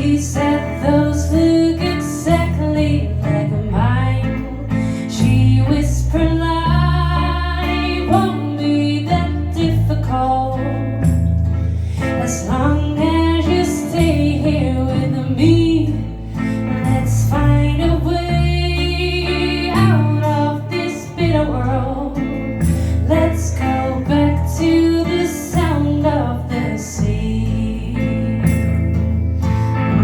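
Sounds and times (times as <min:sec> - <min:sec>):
woman singing: 0:00.0 - 0:11.3, 0:12.0 - 0:29.2
guitar: 0:00.0 - 0:30.0
steady bass: 0:00.0 - 0:30.0.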